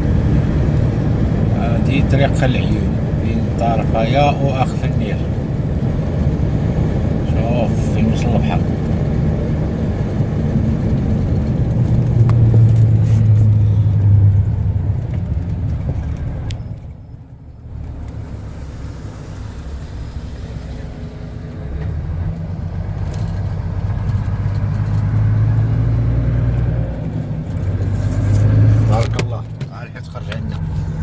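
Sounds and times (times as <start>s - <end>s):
road rumble: 0.0s - 31.0s
vehicle engine running: 0.0s - 31.0s.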